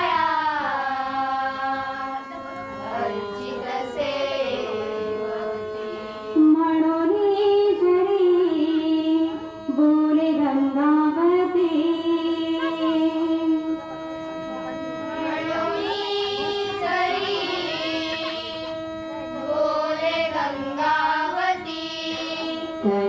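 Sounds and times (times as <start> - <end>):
woman singing devotional song: 0.0 - 13.8, 15.2 - 18.8, 19.4 - 23.0
held accompaniment notes: 0.0 - 23.0.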